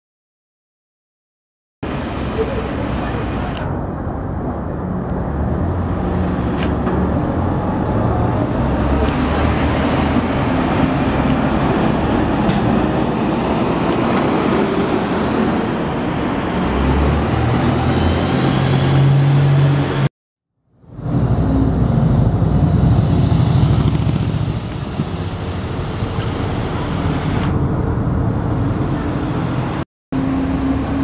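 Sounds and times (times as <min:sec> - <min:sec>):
bus engine whine accelerating: 0:01.8 - 0:20.1, 0:20.8 - 0:31.0
diesel bus engines under load: 0:01.8 - 0:20.1, 0:20.8 - 0:31.0.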